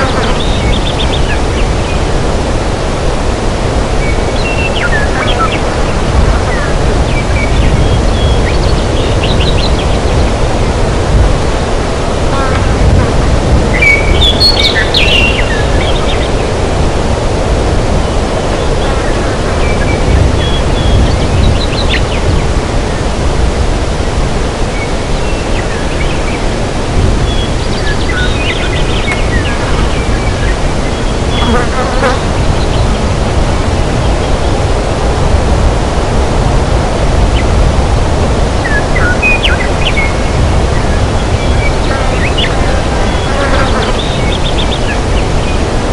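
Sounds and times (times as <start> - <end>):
loud rushing noise: 0.0 - 45.9.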